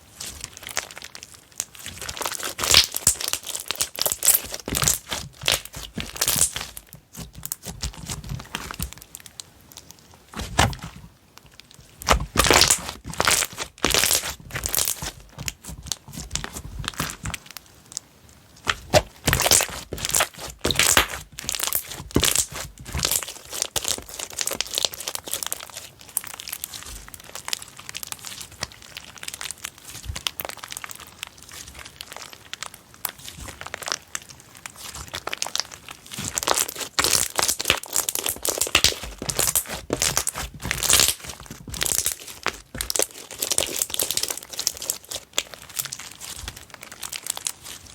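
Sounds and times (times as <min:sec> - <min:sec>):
slime crackling and popping: 0:00.0 - 0:47.9.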